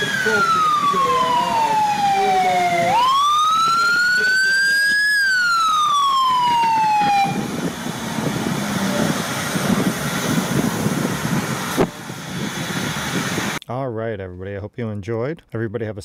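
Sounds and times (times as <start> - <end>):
fire engine motor rumble: 0.0 - 13.6
fire engine siren wail: 0.0 - 13.6
road noise: 0.0 - 13.6.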